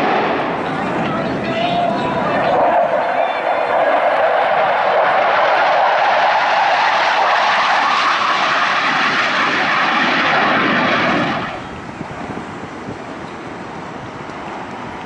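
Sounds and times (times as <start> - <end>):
jet making a low pass: 0.0 - 14.1
distant jets rumbling: 0.0 - 15.0.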